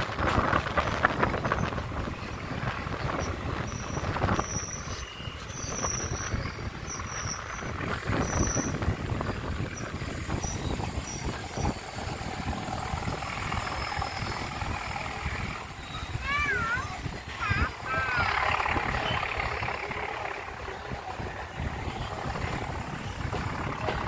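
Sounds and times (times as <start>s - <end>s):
train wheels rattling on rails: 0.0s - 24.0s.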